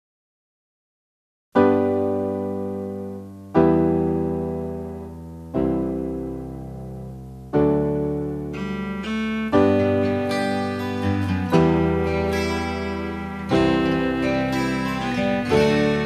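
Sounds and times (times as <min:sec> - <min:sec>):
keyboard chords: 0:01.6 - 0:16.0.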